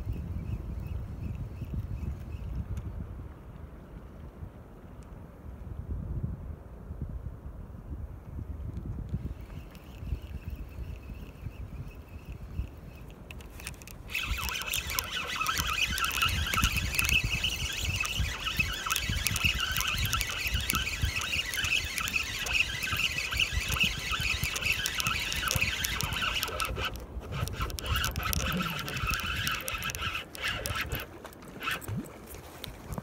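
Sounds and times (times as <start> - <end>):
fishing reel gear whir: 0.0 - 2.9, 9.1 - 33.0.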